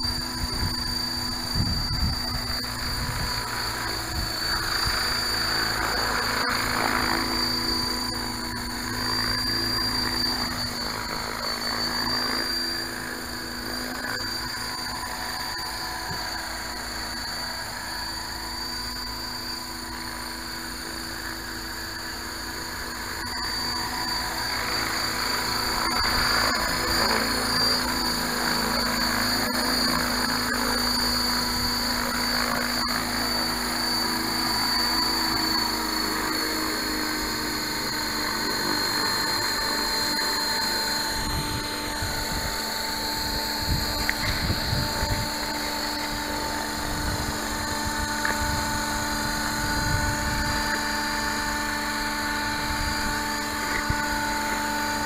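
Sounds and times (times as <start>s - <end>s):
rc helicopter motor and rotor whine: 0.0s - 55.0s.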